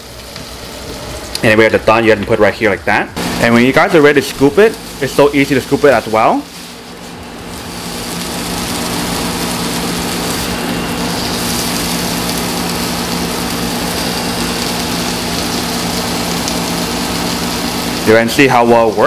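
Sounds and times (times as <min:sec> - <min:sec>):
onions sizzling in a wok: 0:00.0 - 0:01.4, 0:03.2 - 0:19.0
steady low hum: 0:00.0 - 0:19.0.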